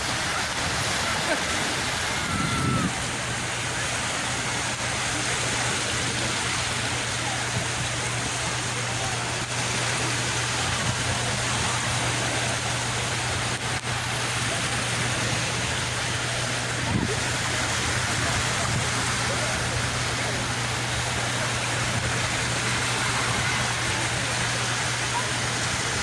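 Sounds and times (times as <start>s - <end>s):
sea waves washing: 0.0s - 26.0s.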